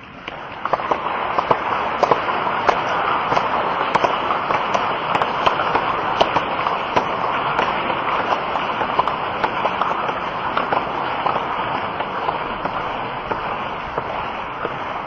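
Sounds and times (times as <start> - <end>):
crowd applauding: 0.3 - 15.0.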